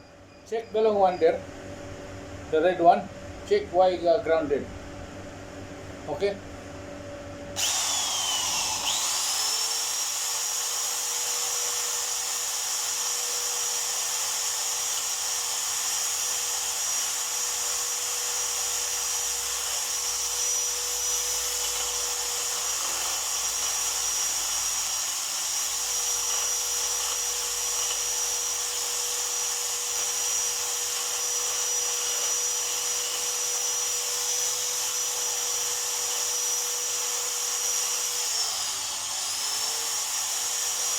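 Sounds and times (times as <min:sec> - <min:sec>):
small high-speed motor whining: 0:07.6 - 0:40.9.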